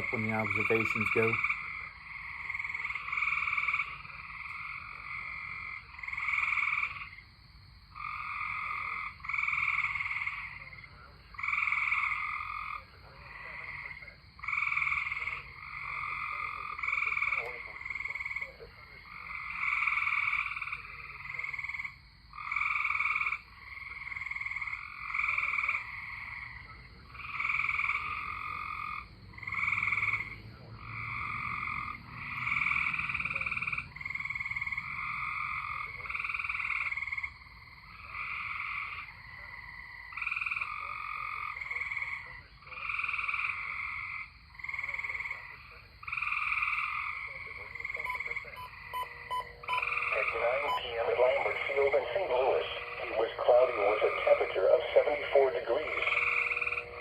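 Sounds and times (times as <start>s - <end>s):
tree frogs trilling: 0.0s - 57.0s.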